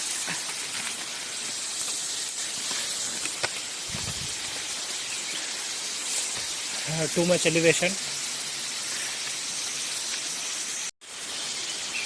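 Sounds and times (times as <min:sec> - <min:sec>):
distant rushing water: 0:00.0 - 0:12.0.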